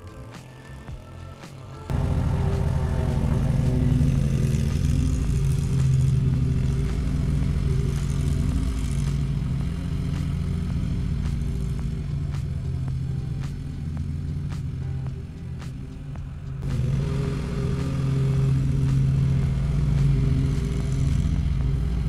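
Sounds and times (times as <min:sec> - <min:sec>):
riding lawn mower engine: 0:00.0 - 0:22.0.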